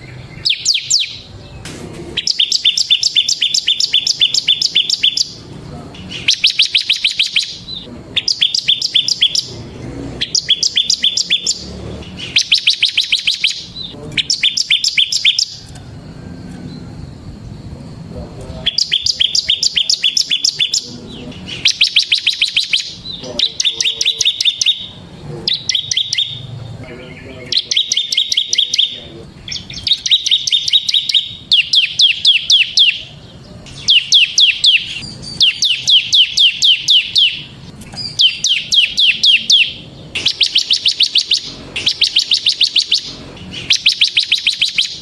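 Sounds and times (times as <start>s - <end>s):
bird trilling: 0.0s - 45.0s.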